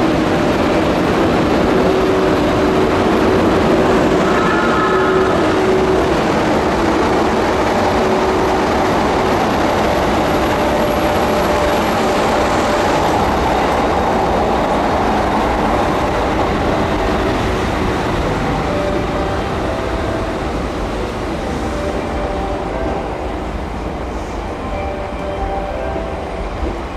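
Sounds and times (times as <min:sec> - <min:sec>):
train rumbling on rails: 0:00.0 - 0:26.9.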